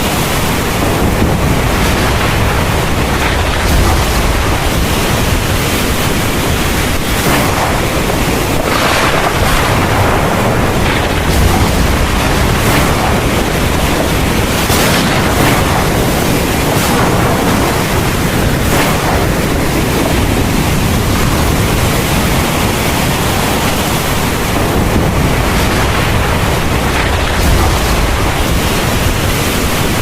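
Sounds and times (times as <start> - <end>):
heavy rain falling: 0.0 - 30.0
deep low rumble: 0.8 - 22.4, 24.5 - 29.5.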